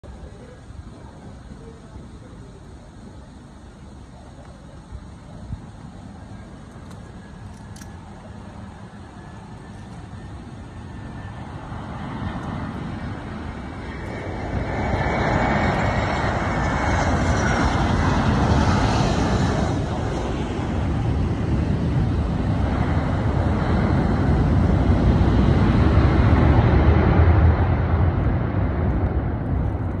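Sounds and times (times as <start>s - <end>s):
deep jet rumble: 0.0s - 30.0s
jet engines roaring: 0.0s - 30.0s.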